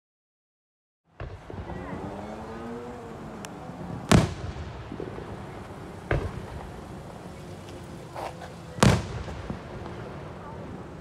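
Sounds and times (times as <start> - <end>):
fireworks bangs: 1.1 - 11.0.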